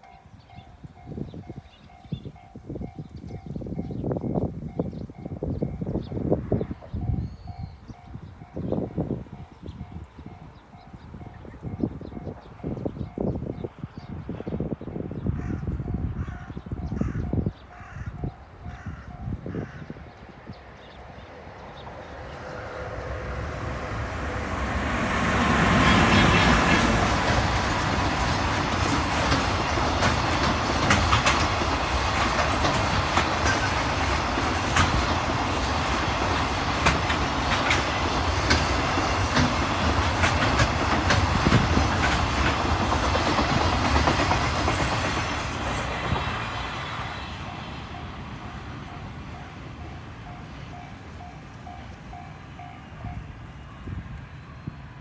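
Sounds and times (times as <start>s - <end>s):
electric locomotive passing: 0.0s - 55.0s.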